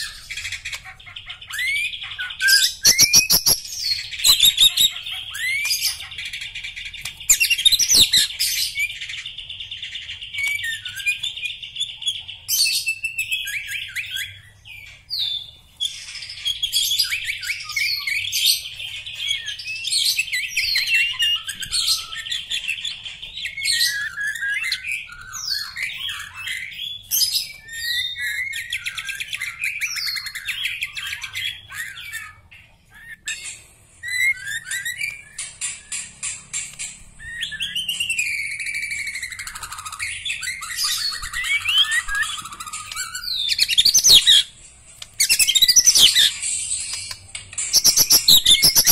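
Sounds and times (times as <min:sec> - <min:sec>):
bird singing whistles and trills: 0:01.4 - 0:33.4, 0:34.0 - 0:36.0, 0:37.2 - 0:44.5, 0:45.2 - 0:47.1, 0:47.7 - 0:48.9.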